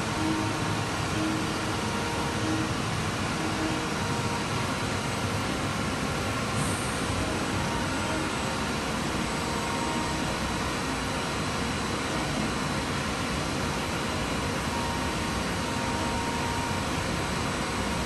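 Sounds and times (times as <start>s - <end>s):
thin steady machine whine: 0.0s - 18.0s.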